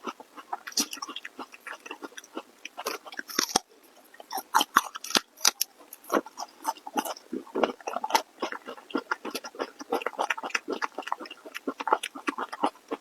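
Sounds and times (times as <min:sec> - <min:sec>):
crunchy chewing of food: 0:00.0 - 0:13.0
wet mouth clicks: 0:00.1 - 0:13.0.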